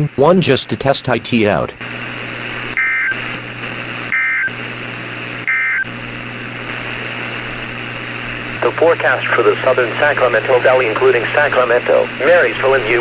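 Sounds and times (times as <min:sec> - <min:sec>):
radio hiss and hum: 0:00.0 - 0:13.0.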